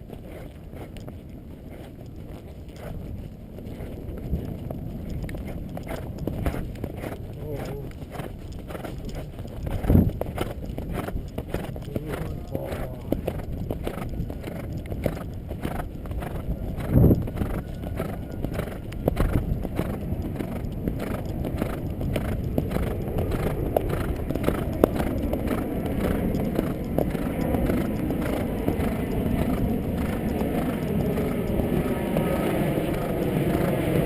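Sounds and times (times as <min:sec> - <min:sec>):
horse hooves striking ground: 0:00.0 - 0:34.0
steady rushing noise: 0:00.0 - 0:34.0.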